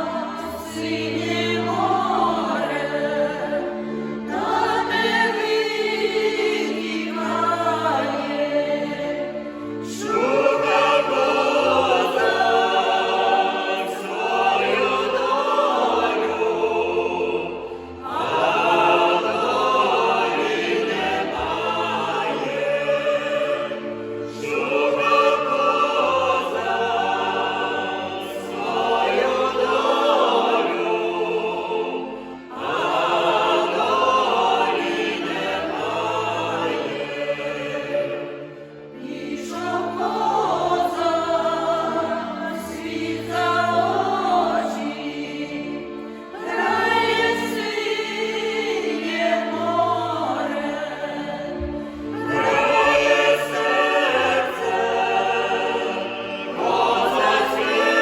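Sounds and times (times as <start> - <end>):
folk choir singing: 0.0 - 58.0.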